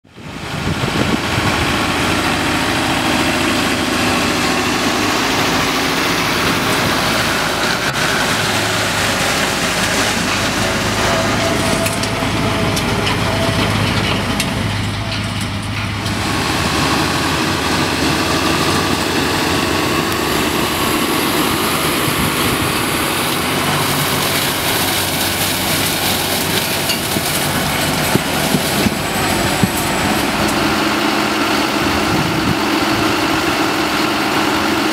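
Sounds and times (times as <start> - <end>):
harvester working: 0.0 - 34.9
tractor engine under load: 0.0 - 34.9.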